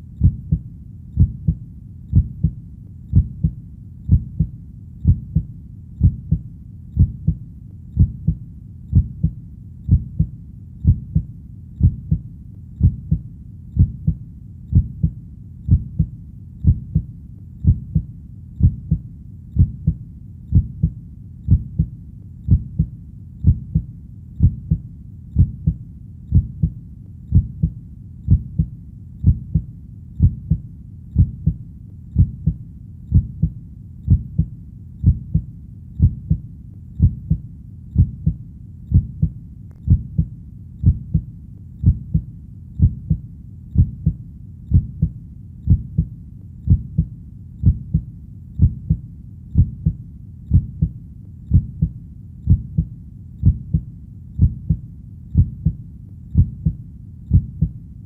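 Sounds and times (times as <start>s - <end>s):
low background rumble: 0.0s - 58.0s
heartbeat double thump: 0.2s - 0.6s, 1.2s - 6.4s, 8.0s - 12.2s, 12.8s - 13.2s, 13.8s - 19.0s, 19.6s - 21.9s, 22.5s - 24.8s, 25.4s - 30.6s, 32.2s - 36.4s, 37.0s - 37.4s, 38.0s - 43.2s, 43.8s - 46.1s, 46.7s - 49.0s, 49.6s - 51.9s, 52.5s - 54.8s, 55.4s - 55.8s, 56.4s - 57.8s.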